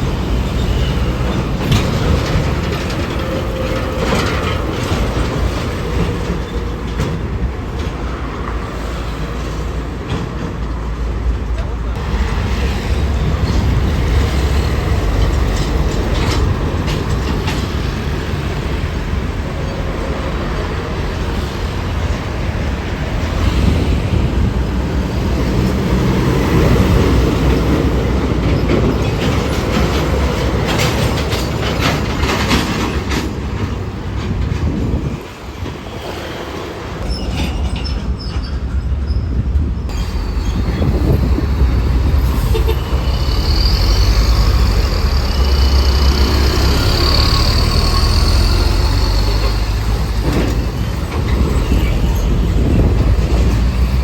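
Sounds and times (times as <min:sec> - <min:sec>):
heavy vehicles rumbling past: 0:00.0 - 0:37.4, 0:39.9 - 0:54.0.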